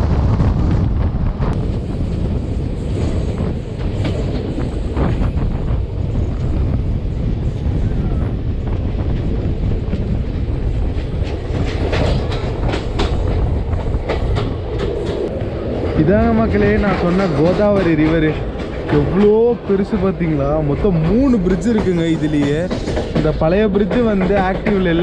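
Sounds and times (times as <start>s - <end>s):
train coaches rumbling: 0.0s - 25.0s.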